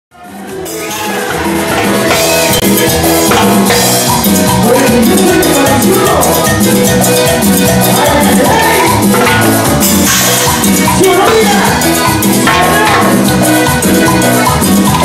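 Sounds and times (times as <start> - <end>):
live band playing latin music: 0.1 - 15.0.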